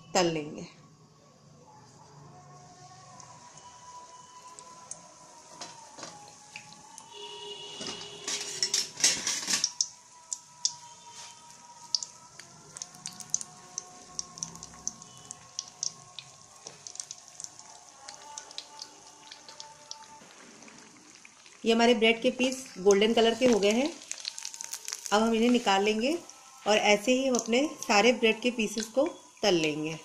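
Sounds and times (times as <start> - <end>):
bread deep-frying in oil: 3.6 - 30.0.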